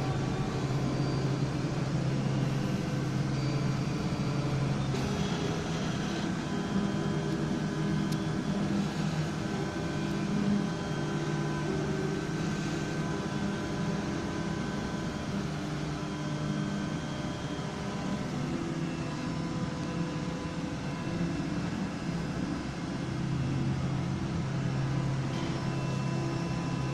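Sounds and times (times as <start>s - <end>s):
constant whirring: 0.0s - 26.9s
machine hum with motor tones: 0.0s - 26.9s.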